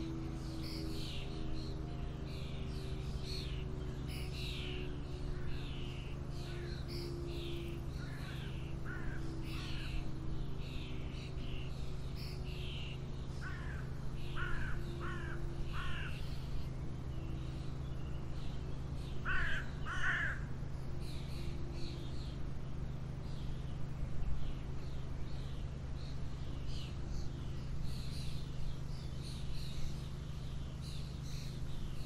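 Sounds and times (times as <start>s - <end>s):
birds chirping: 0.0s - 32.0s
steady low hum: 0.0s - 32.0s.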